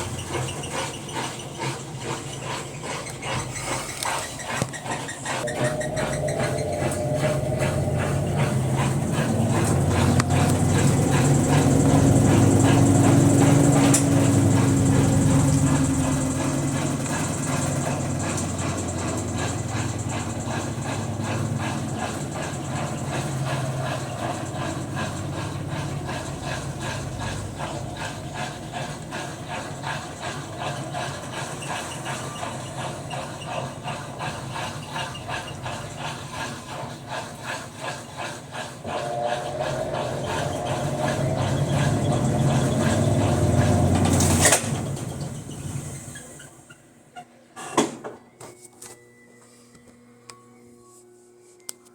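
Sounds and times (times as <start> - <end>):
washing machine spinning: 0.0 - 48.3.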